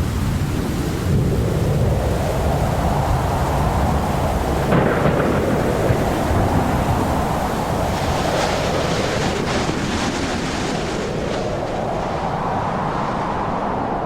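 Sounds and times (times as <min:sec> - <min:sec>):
patter of heavy raindrops: 0:00.0 - 0:13.7
rain and gusting wind: 0:00.0 - 0:14.0.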